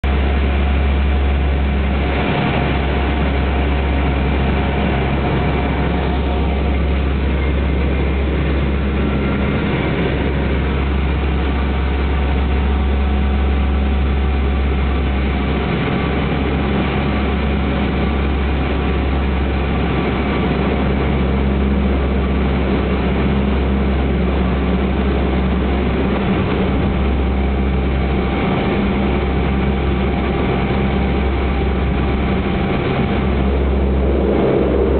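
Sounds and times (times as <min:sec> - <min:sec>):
heavy engine rumbling: 0:00.0 - 0:34.9.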